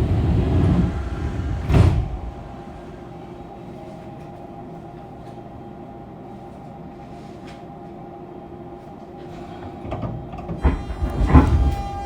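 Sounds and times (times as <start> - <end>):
train equipment humming: 0.0 - 6.8, 8.8 - 12.0.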